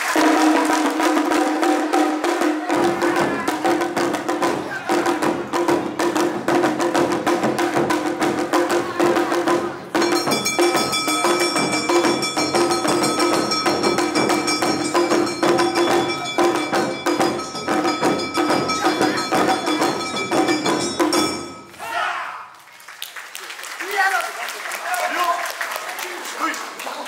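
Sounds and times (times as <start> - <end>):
drums: 0.0 - 21.7.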